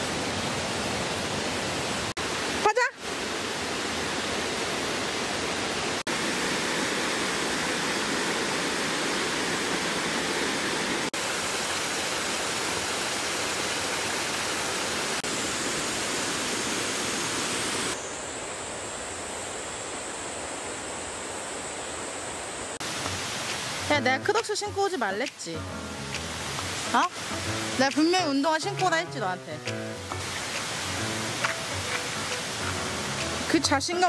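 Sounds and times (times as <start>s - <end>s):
stream rushing over rocks: 0.0s - 18.0s, 22.8s - 34.0s.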